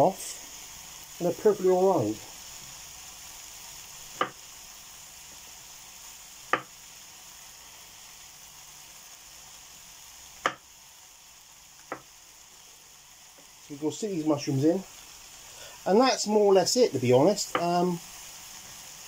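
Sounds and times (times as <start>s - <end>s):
pan sizzling: 0.0s - 19.0s.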